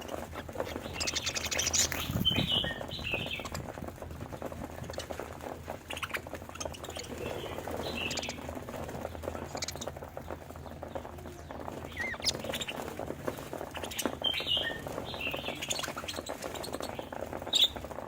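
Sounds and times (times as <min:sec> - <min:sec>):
budgerigars chirping: 0:00.0 - 0:03.7, 0:05.8 - 0:17.8.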